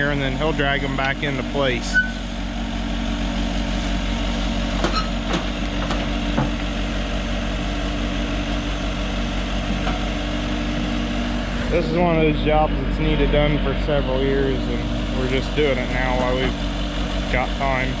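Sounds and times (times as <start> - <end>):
heavy equipment engine running: 0.0 - 18.0.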